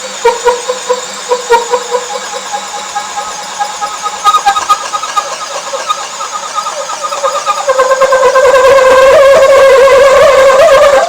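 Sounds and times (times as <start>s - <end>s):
cordless drill boring through wood: 1.0s - 11.0s.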